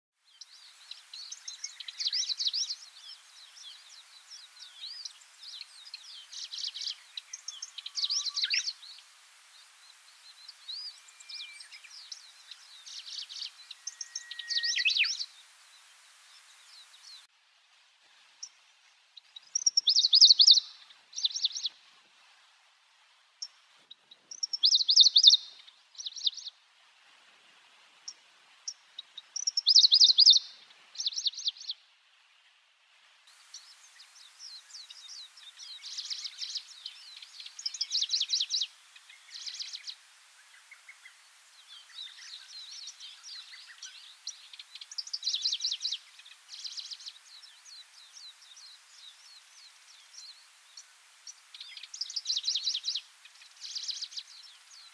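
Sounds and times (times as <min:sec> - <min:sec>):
warbler singing: 0:00.3 - 0:17.3, 0:19.3 - 0:21.8, 0:23.4 - 0:26.6, 0:28.1 - 0:31.8, 0:33.5 - 0:54.9.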